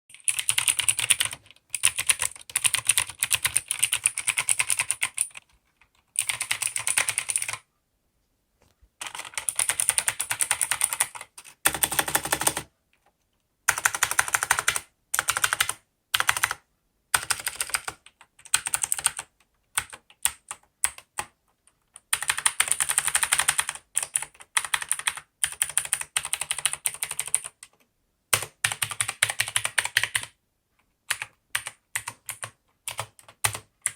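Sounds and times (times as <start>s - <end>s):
clicky keyboard typing: 0.1s - 7.6s, 9.0s - 16.6s, 17.2s - 33.9s.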